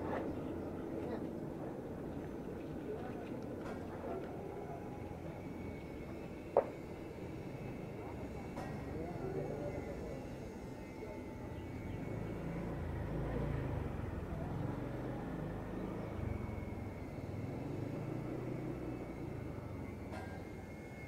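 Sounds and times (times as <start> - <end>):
distant vehicles rumbling: 0.0 - 21.0.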